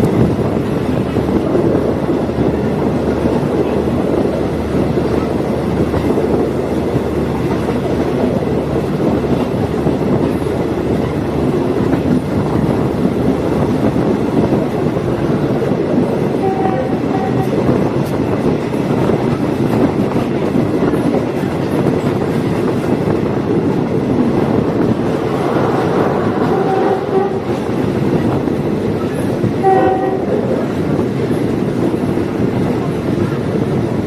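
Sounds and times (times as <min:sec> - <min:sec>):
railcar running on track: 0:00.0 - 0:34.0.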